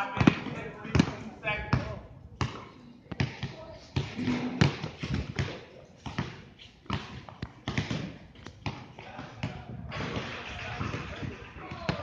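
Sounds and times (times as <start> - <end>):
basketball bouncing on hard court: 0.1 - 12.0.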